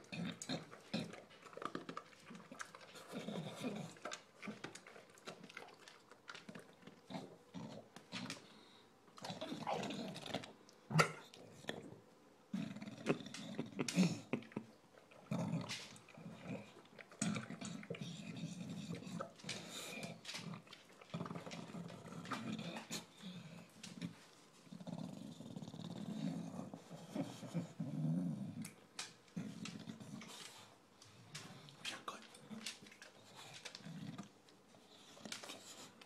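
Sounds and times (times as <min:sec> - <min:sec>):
dog breathing and grunting: 0:00.0 - 0:36.0
dog eating noisily: 0:00.0 - 0:36.0.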